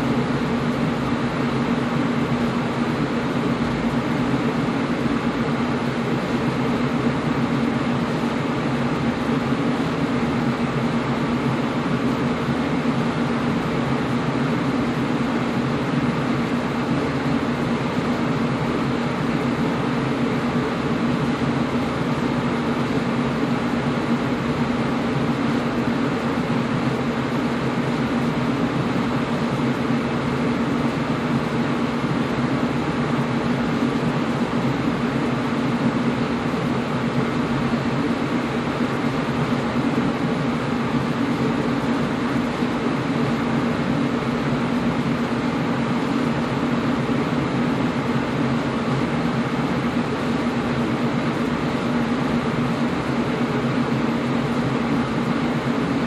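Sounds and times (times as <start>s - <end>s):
air conditioner fan rushing: 0.0s - 56.0s
low constant hum: 0.0s - 56.0s.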